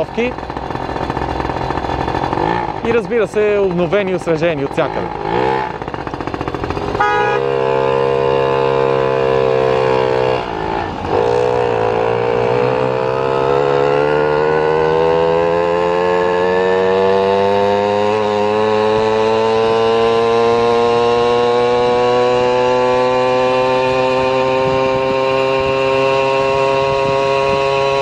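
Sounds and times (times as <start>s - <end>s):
small petrol engine running: 0.0s - 28.0s.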